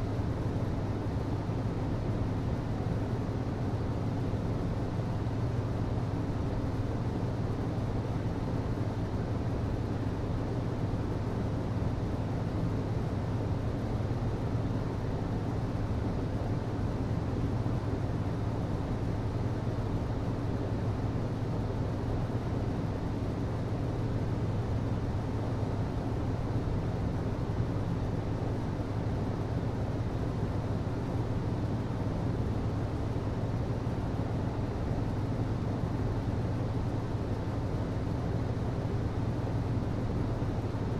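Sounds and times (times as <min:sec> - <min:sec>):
hvac low hum: 0:00.0 - 0:40.9.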